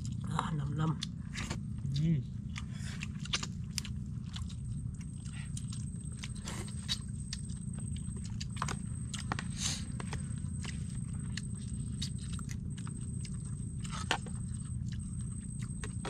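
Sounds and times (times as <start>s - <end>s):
low background rumble: 0.0s - 16.0s
people chewing and lip-smacking: 0.0s - 16.0s.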